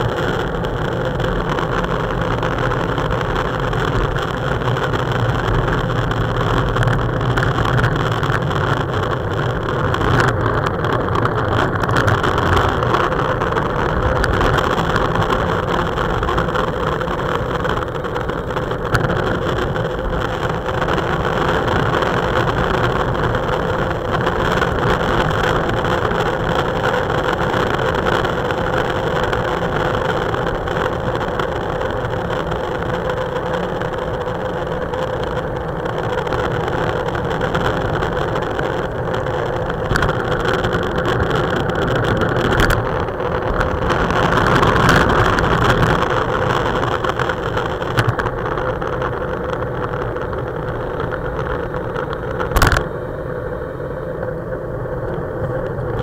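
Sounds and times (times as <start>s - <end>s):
bicycle tyre and road noise: 0.0s - 56.0s
faint steady hum: 0.0s - 56.0s
wind rush over microphone: 0.0s - 56.0s.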